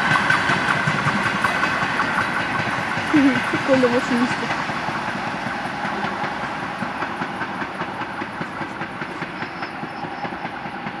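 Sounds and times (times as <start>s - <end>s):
train rolling on rails: 0.0s - 11.0s
wheels clicking over rail joints: 0.0s - 11.0s.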